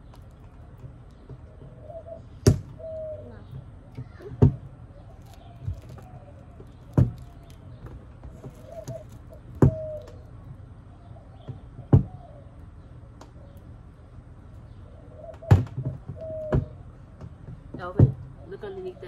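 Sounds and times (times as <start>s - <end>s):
faint bird calls: 0.0s - 17.2s.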